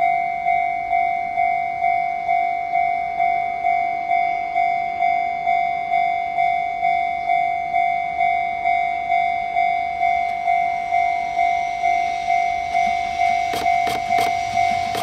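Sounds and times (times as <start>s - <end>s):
level-crossing warning bell ringing: 0.0s - 15.0s.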